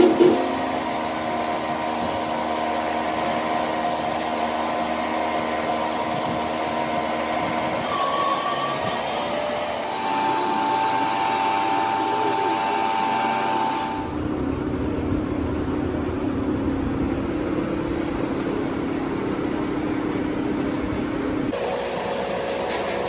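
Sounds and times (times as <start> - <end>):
machine humming: 0.0 - 23.0
steady machine tone: 0.4 - 23.0.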